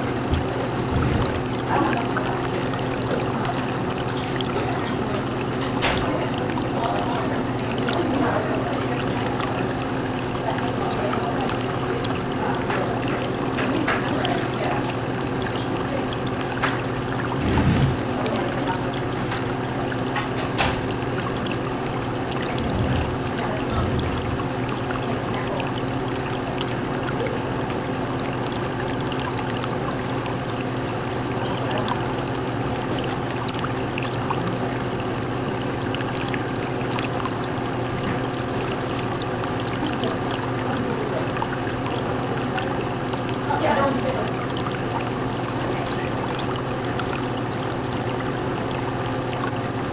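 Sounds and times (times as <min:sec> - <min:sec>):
aquarium water trickling: 0:00.0 - 0:49.9
low steady hum: 0:00.0 - 0:49.9.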